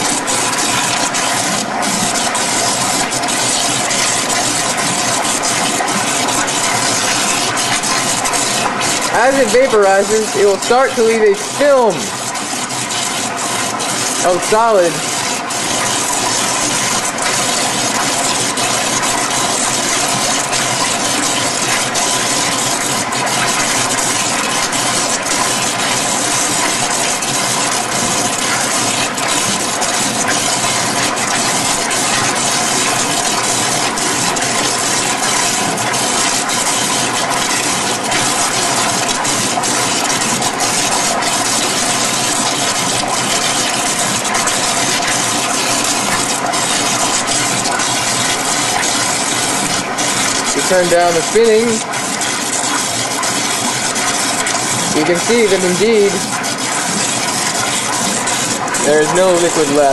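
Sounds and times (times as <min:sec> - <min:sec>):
spinning rotor whine: 0:00.0 - 0:59.9
water rushing through aspirator: 0:00.0 - 0:59.9.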